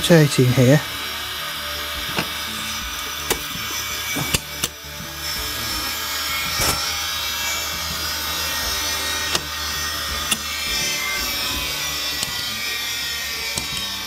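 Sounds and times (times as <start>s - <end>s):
low hum: 0.0s - 14.0s
vcr motor whirring: 0.0s - 14.0s.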